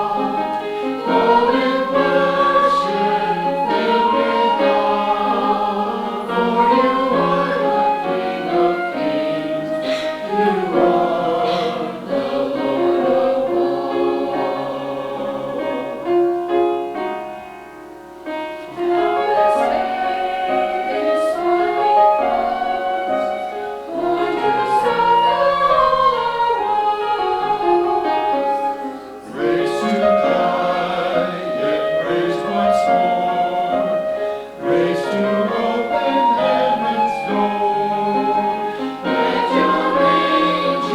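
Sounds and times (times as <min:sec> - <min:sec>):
church choir singing: 0:00.0 - 0:40.9.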